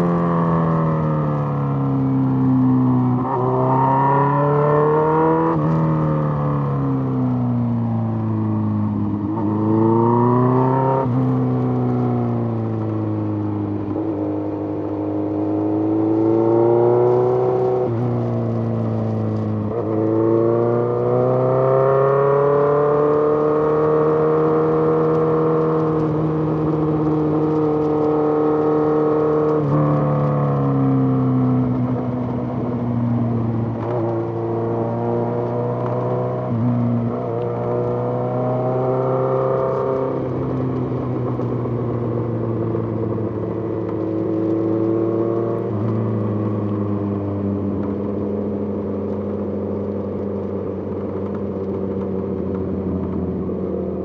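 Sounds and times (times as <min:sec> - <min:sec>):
motorcycle engine revving: 0:08.5 - 0:13.2, 0:13.9 - 0:54.0.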